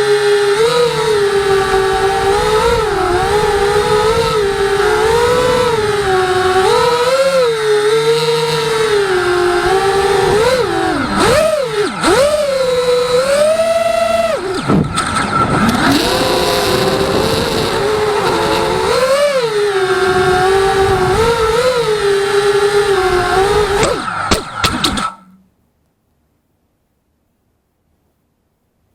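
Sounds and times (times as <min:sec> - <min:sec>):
drone motors whining: 0:00.0 - 0:25.5.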